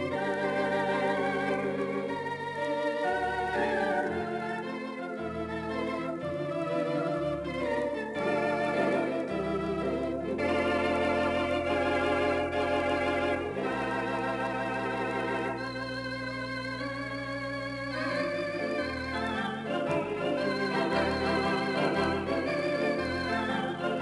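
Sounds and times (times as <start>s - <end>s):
theatre organ chords with vibrato: 0.0s - 24.0s.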